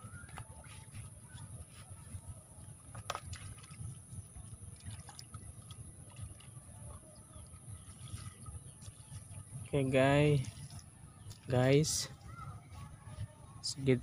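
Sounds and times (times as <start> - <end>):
water splashing and dripping: 0.0 - 12.4.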